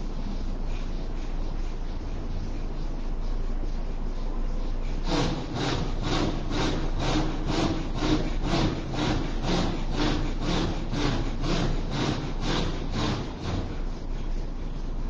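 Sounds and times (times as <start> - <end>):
man breathing rapidly: 0.0 - 15.0.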